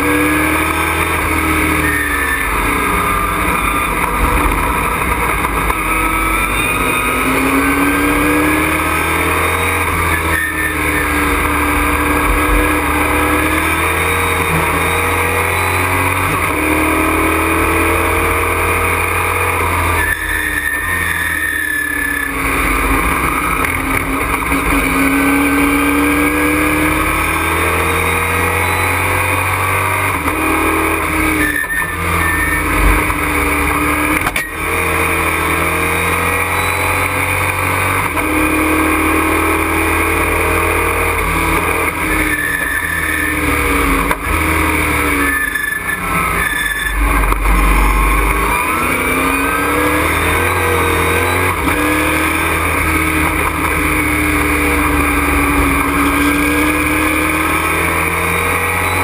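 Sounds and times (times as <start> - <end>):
race truck engine accelerating: 0.0 - 59.0.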